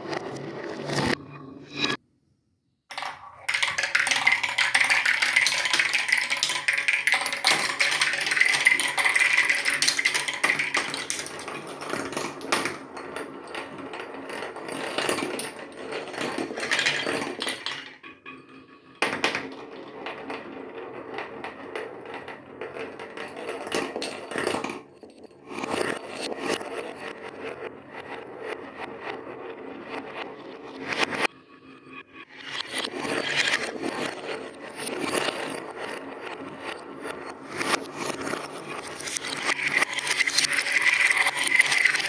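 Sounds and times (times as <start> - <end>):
marbles clattering down a track: 2.9 - 31.3, 32.4 - 42.0
marbles whirring in a funnel: 2.9 - 31.3, 32.2 - 42.0.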